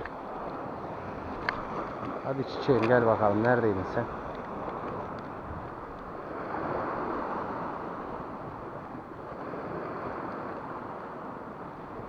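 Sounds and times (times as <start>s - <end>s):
waves washing against rocks: 0.0s - 12.0s
wind on microphone: 0.0s - 12.0s.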